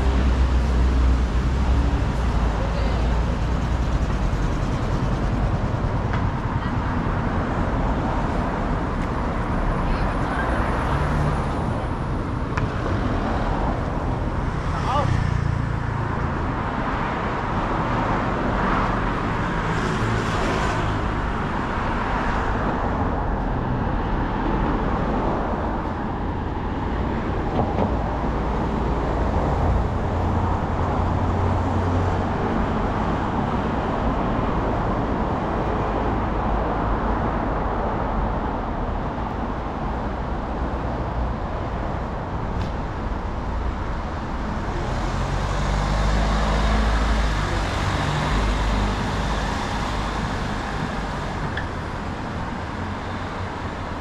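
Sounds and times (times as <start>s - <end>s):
traffic hum: 0.0s - 54.0s
vehicles passing rumble: 0.0s - 54.0s.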